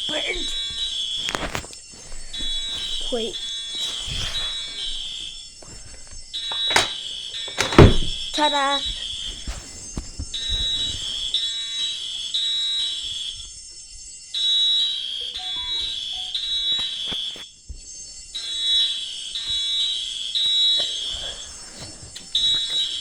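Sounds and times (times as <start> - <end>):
fire alarm two-tone beeping: 0.0 - 23.0.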